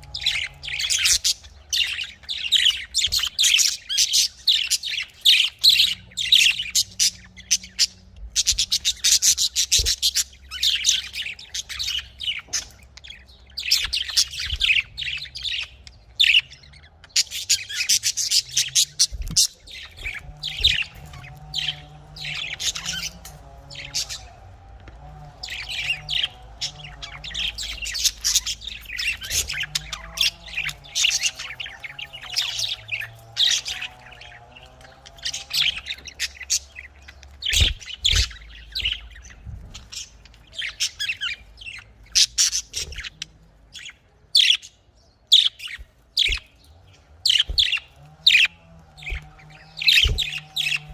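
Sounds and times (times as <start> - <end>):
budgerigars chirping and chattering: 0.0 - 50.9.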